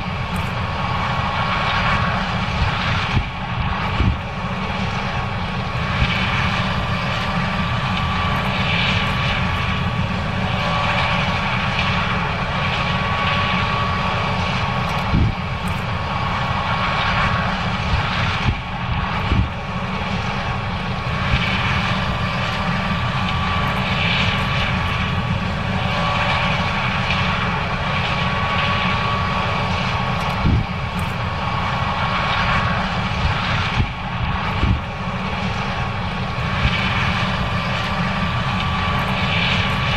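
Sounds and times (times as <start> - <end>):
machinery drone: 0.0 - 39.9
steady high whine: 0.0 - 39.9.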